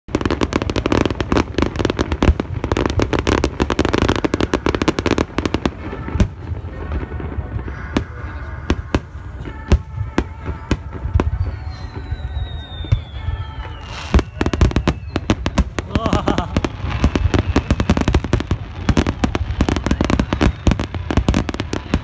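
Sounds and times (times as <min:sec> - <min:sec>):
fireworks crackling and banging: 0:00.1 - 0:22.0.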